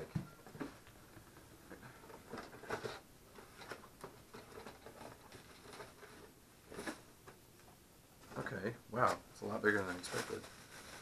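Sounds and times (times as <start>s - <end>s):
cardboard and plastic wrap rustling: 0.0s - 7.2s, 8.2s - 11.0s.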